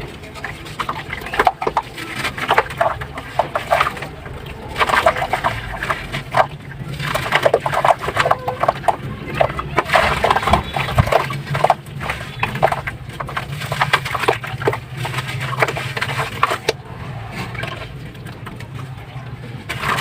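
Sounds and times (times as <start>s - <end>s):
slabs crumbling in water: 0.0s - 18.9s.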